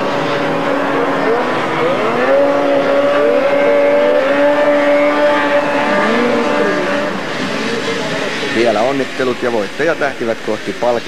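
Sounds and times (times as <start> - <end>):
snowmobile engines whining: 0.0 - 11.0.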